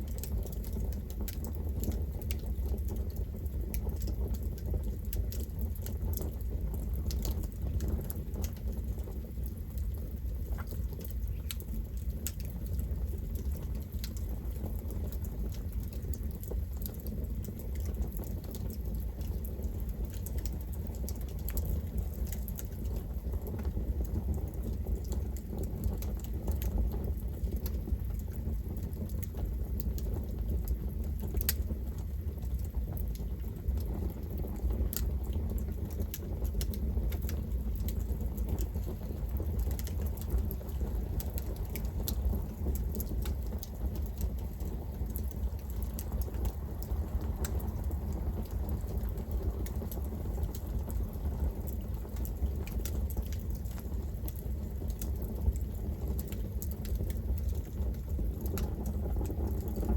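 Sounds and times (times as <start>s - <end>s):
flames rumbling: 0.0s - 59.9s
wood crackling and popping: 0.0s - 59.9s.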